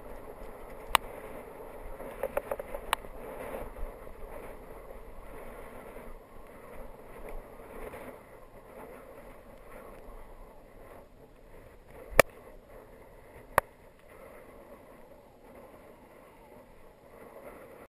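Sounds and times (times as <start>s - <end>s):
bike rolling noise: 0.0s - 17.9s
wind: 0.0s - 17.9s.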